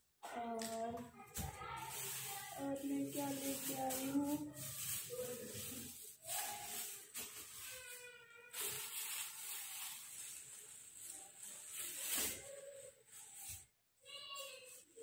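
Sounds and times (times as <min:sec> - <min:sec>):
rustling items by hand: 0:00.2 - 0:15.0.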